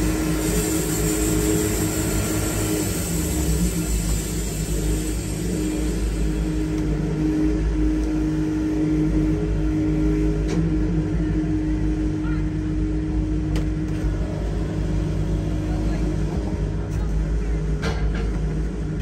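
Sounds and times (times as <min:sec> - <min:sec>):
sawmill engine rumbling: 0:00.0 - 0:19.0.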